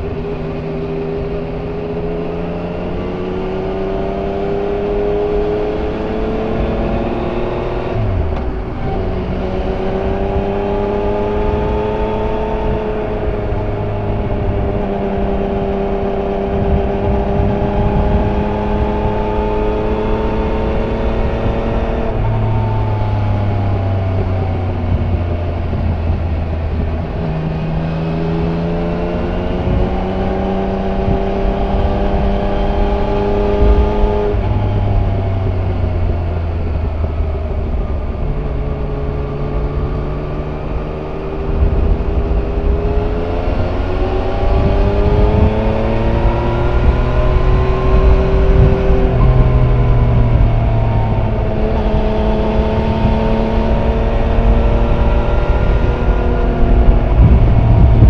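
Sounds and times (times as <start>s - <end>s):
motorcycle engine while riding: 0.0s - 58.0s.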